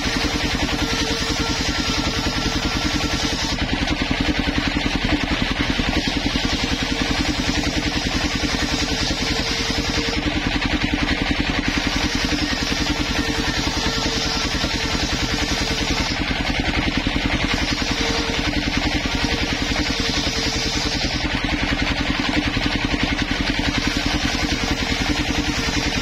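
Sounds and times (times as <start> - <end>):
circular saw cutting wood: 0.0 - 26.0
low pulsing machine drive: 0.0 - 26.0.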